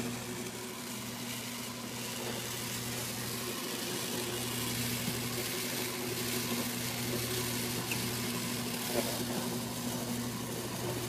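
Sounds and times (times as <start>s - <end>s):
litter box motor hum: 0.0s - 11.0s
rake combing through granules: 0.0s - 11.0s.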